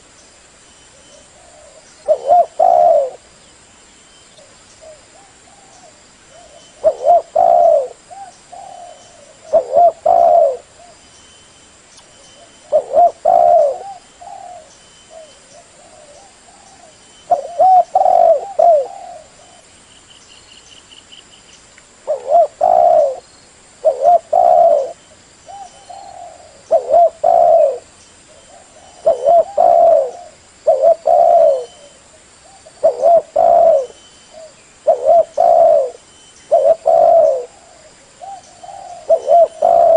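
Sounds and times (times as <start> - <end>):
dove cooing: 0.9 - 3.3, 4.4 - 11.0, 12.4 - 19.7, 22.0 - 23.2, 23.8 - 39.9.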